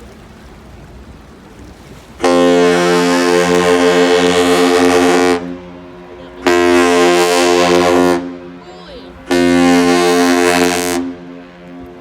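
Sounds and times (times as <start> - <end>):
ship's horn deep blast: 1.9 - 12.0.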